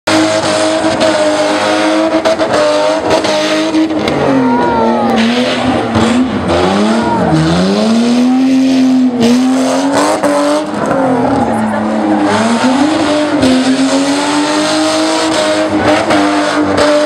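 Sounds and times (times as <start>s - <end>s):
car engine running hard: 0.1s - 17.0s.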